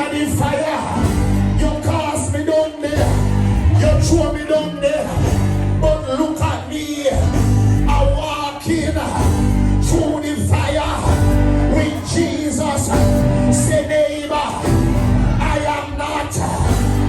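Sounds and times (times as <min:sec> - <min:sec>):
band with repeating bass line: 0:00.0 - 0:17.0
person singing: 0:00.0 - 0:17.0.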